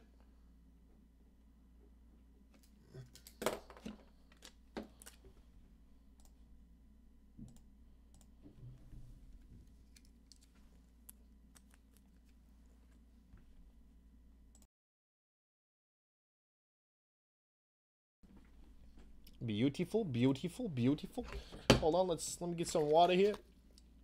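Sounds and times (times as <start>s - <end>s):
low steady hum: 0.0s - 14.7s, 18.2s - 24.0s.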